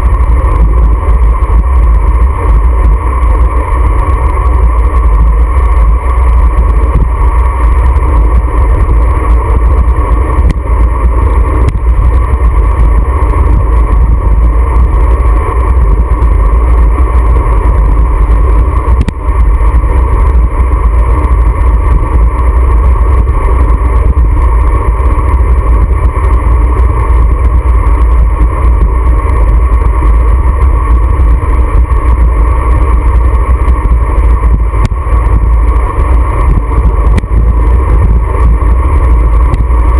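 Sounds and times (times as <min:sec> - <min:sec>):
wind rumble on camera: 0:00.0 - 0:39.9.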